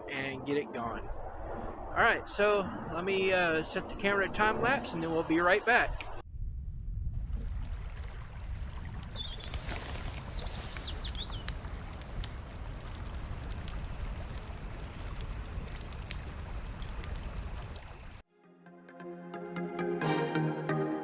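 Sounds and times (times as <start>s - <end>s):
wind noise on microphone: 0.0s - 4.8s, 5.8s - 18.2s.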